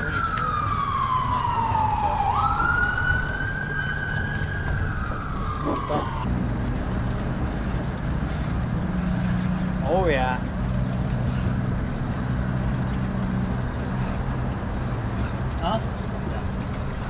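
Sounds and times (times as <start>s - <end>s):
emergency vehicle siren wailing: 0.0s - 17.0s
low steady rumble: 0.0s - 17.0s.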